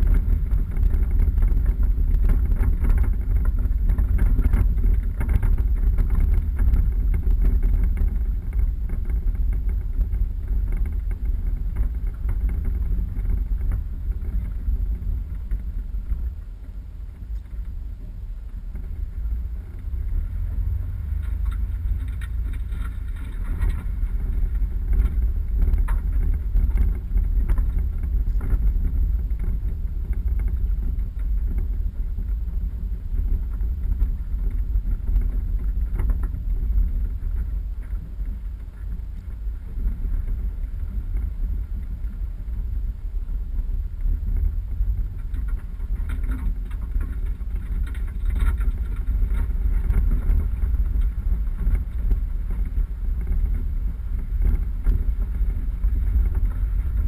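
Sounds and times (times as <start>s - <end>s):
vehicle knocks and rattles: 0.0s - 42.8s, 43.5s - 57.0s
off-road vehicle rumble: 0.0s - 57.0s.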